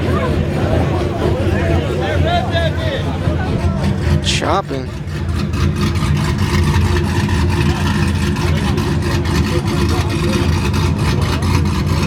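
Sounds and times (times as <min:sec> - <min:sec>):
engine idling with lumpy beat: 0:00.0 - 0:12.0.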